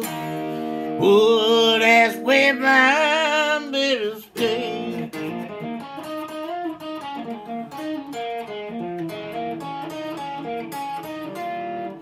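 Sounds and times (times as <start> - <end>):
electric guitar blues lead: 0.0 - 12.0.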